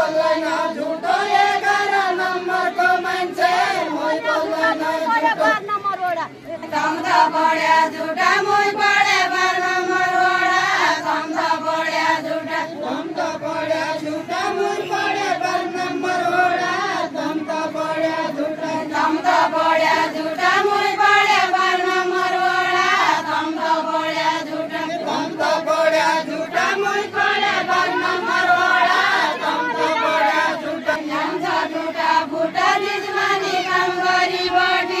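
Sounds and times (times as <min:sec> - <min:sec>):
women singing in unison: 0:00.0 - 0:35.0.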